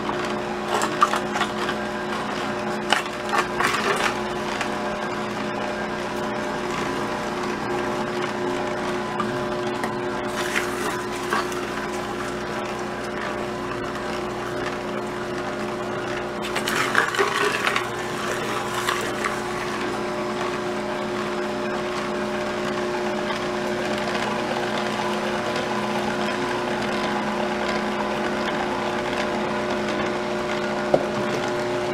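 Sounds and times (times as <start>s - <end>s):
juicer motor hum: 0.0s - 31.9s.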